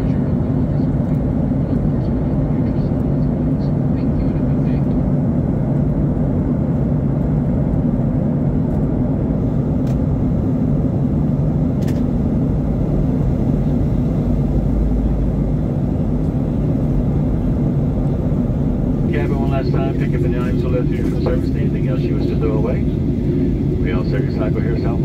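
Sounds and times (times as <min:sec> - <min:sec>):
airflow rumbling past fuselage: 0:00.0 - 0:25.0
jet engines humming: 0:00.0 - 0:25.0.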